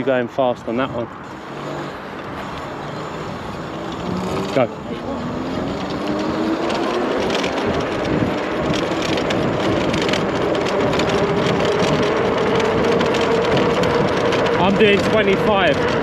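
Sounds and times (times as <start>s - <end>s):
wind on microphone: 1.1s - 16.0s
electric motor whining: 1.2s - 16.0s.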